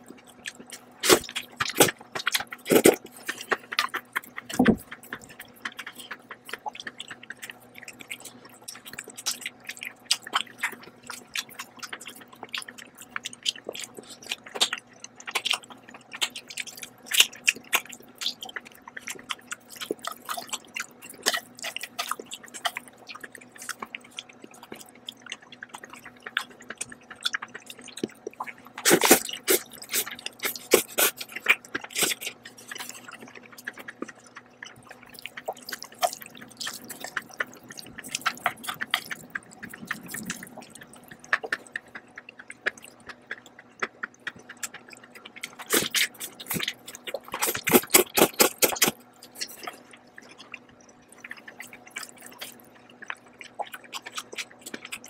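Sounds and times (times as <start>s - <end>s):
wet chewing and mouth smacks: 0.0s - 55.0s.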